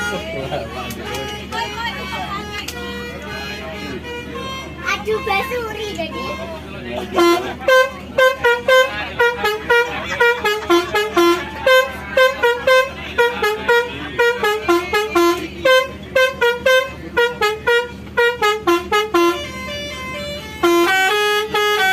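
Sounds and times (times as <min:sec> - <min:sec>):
musical air horn tune: 0:00.0 - 0:21.9.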